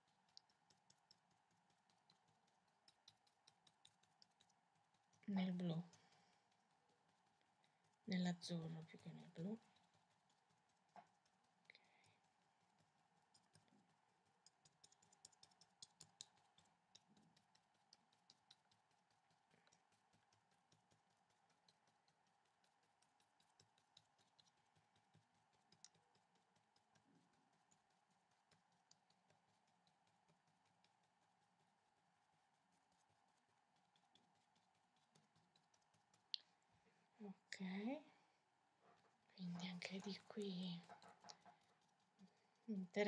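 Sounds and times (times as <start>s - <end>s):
brush tapping on paper: 0.0s - 36.8s, 38.8s - 43.0s
faint steady hum: 0.0s - 43.0s.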